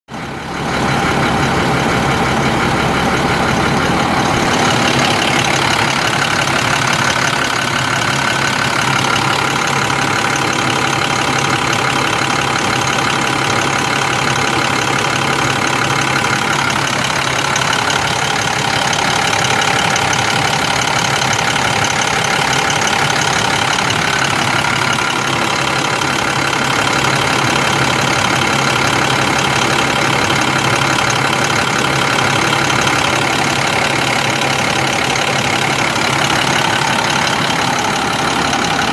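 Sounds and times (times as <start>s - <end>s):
diesel truck engine idling: 0.1s - 38.9s.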